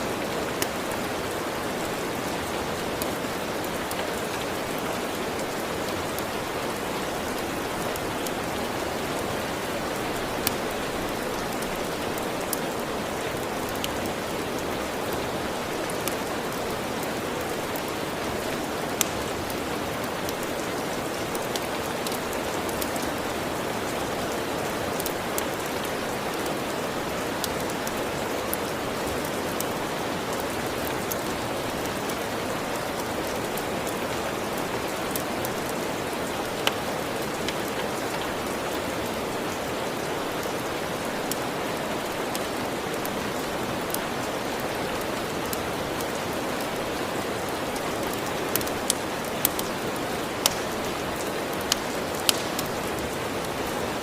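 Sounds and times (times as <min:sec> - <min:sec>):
rain hissing: 0:00.0 - 0:54.0
wood fire crackles: 0:00.0 - 0:54.0.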